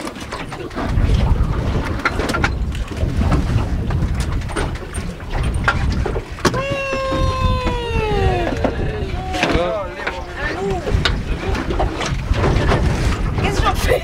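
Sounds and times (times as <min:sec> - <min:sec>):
low rumbling wind and water: 0:00.0 - 0:14.0.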